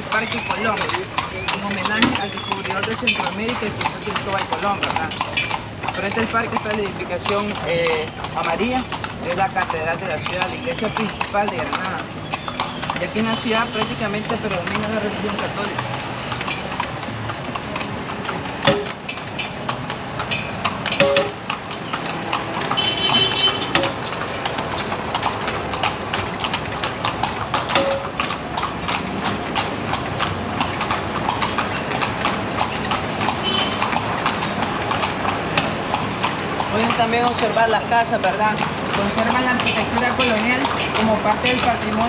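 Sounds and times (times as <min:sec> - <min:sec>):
horse hooves clip-clopping on pavement: 0:00.0 - 0:42.0.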